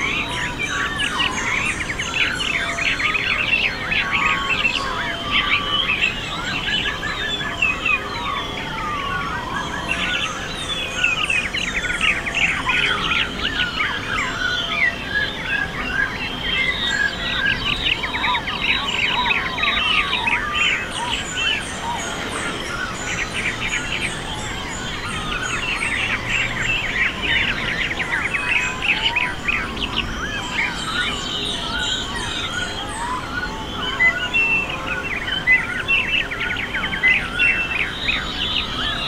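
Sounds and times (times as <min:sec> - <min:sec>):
low background noise: 0:00.0 - 0:39.0
many birds chirping: 0:00.0 - 0:39.0.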